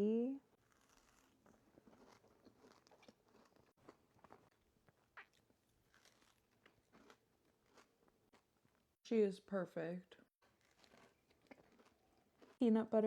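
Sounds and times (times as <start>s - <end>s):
cookie crunching: 0.6s - 8.8s, 10.4s - 12.7s.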